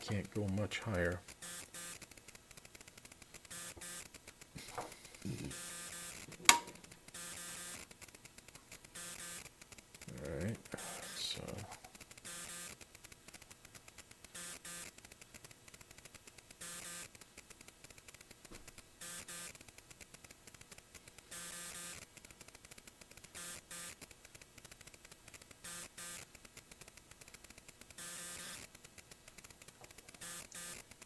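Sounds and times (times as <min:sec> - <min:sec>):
crackling static: 0:00.0 - 0:31.0
short buzzing bursts: 0:01.0 - 0:18.2, 0:19.0 - 0:22.1, 0:23.2 - 0:31.0.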